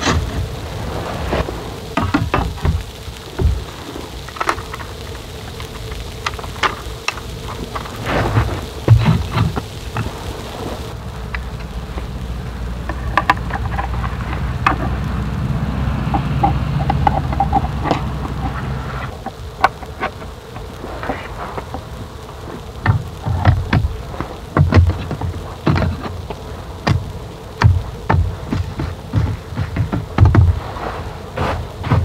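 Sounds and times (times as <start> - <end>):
low thumps: 0.0 - 32.0
rain falling: 0.0 - 32.0
steady low rumble: 0.0 - 32.0.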